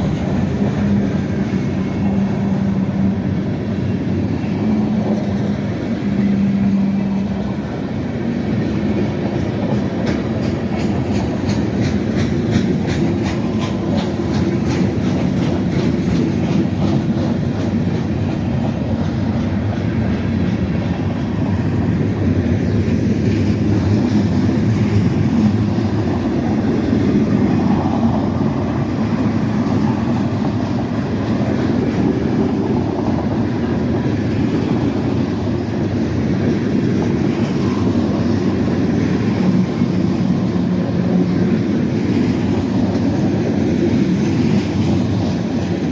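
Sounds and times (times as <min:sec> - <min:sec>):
train wheels rumbling on rail: 0:00.0 - 0:45.9
wheels clacking over rail joints: 0:00.0 - 0:45.9.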